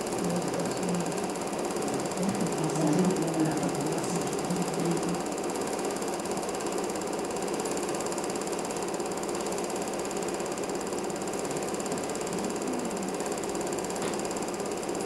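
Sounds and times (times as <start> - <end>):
film projector clattering: 0.0 - 15.0.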